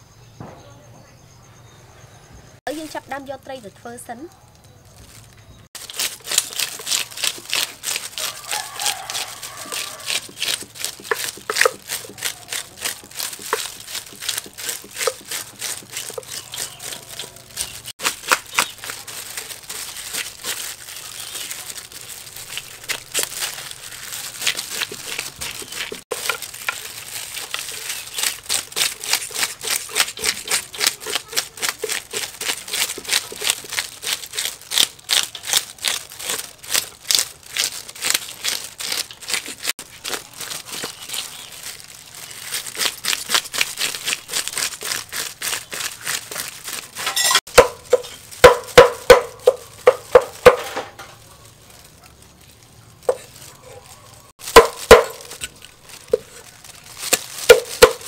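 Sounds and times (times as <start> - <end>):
fish scaler scraping fish: 5.8 - 51.2, 53.0 - 58.0.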